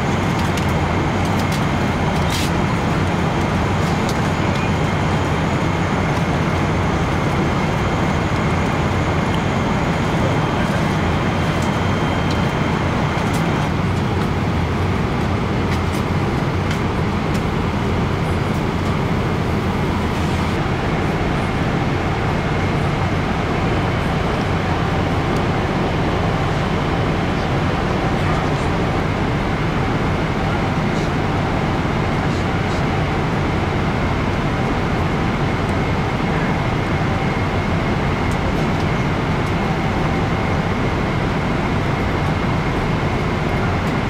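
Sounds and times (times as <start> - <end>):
airliner cabin roar: 0.0 - 44.0.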